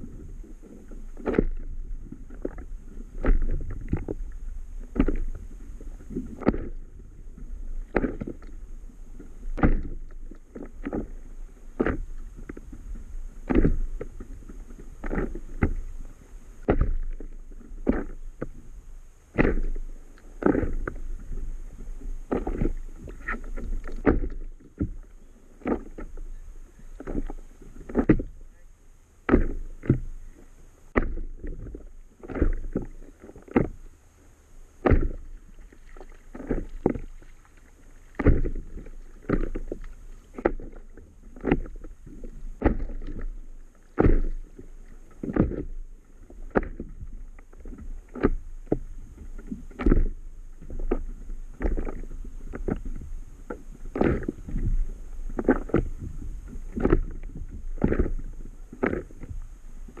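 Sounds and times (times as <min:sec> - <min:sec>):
small waves slapping a paddle board: 0:00.0 - 1:00.0.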